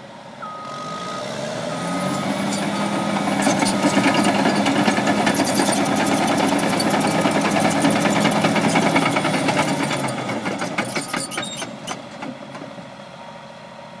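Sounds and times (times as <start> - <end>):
dozer diesel engine under load: 0.0 - 14.0.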